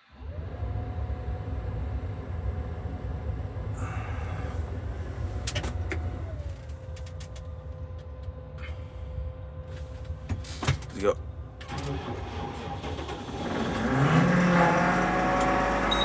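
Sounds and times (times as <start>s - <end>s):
diesel tractor engine rumbling: 0.2s - 7.4s, 9.7s - 16.0s.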